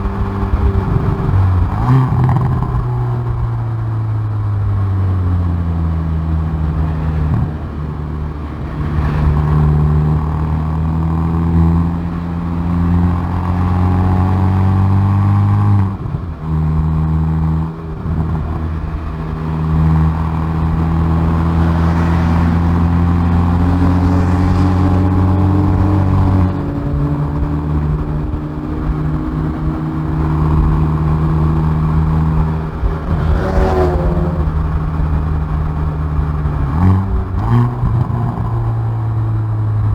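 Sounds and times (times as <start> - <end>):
car exhaust under hard acceleration: 0.0 - 39.9
tyre and wind noise: 0.0 - 39.9.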